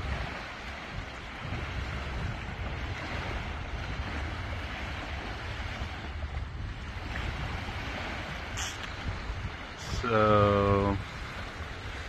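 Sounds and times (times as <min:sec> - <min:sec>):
small waves washing onto sand: 0:00.0 - 0:12.0
wind buffeting microphone: 0:00.0 - 0:12.0.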